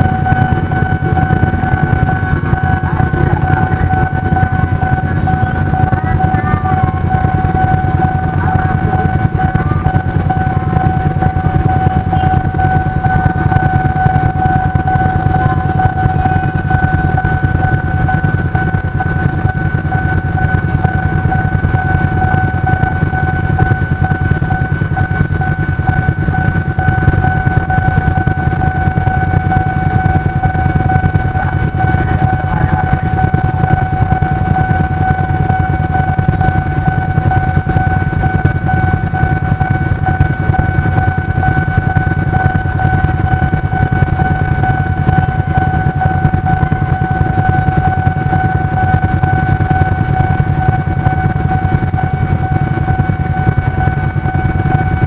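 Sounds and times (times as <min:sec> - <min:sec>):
motorcycles idling: 0:00.0 - 0:22.3, 0:25.2 - 0:49.5
constant high-pitched tone: 0:00.0 - 0:55.0.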